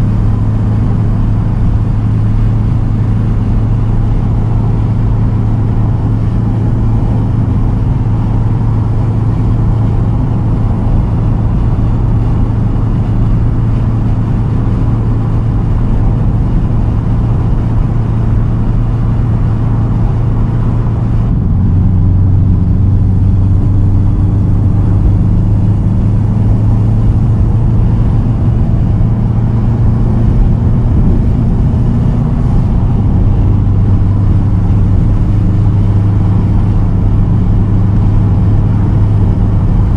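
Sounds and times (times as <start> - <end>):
car engine low drone: 0.0 - 39.9.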